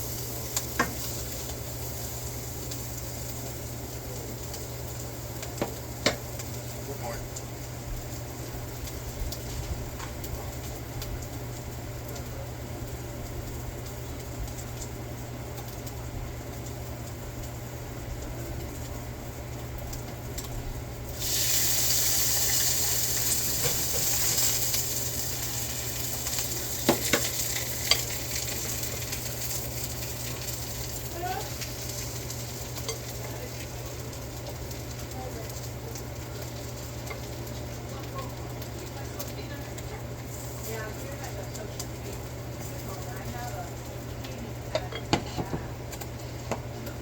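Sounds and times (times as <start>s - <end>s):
taco sizzling in a pan: 0.0s - 47.0s.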